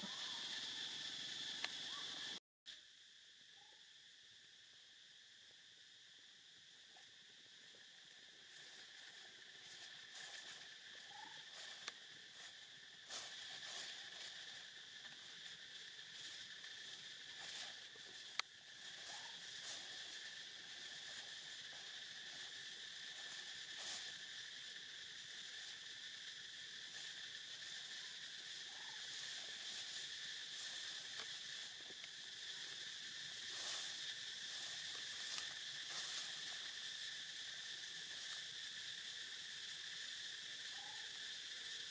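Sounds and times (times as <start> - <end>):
high insect chorus: 0.0 - 41.9.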